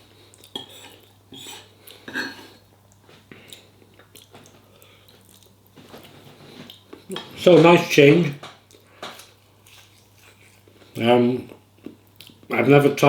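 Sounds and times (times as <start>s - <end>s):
person chewing food: 0.0s - 7.4s, 8.6s - 12.5s.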